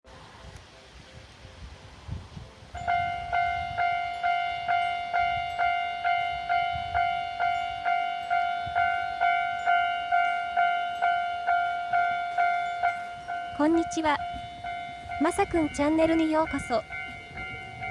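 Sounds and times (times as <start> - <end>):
level crossing warning bell: 2.6 - 17.9.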